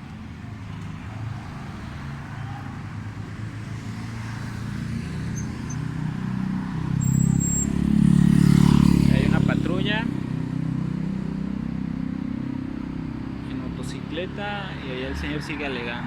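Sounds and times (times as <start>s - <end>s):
vehicle engine humming: 0.0s - 14.8s.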